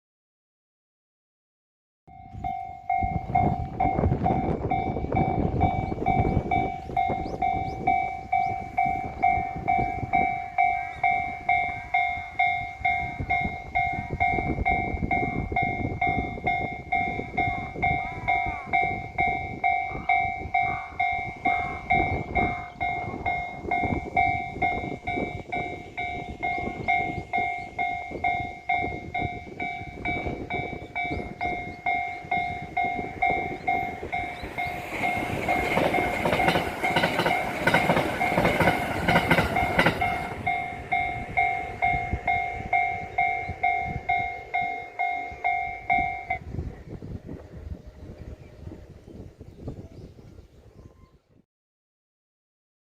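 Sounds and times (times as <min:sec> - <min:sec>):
level crossing alarm bell: 0:02.1 - 0:46.5
train wheels clacking on rails: 0:02.9 - 0:46.4.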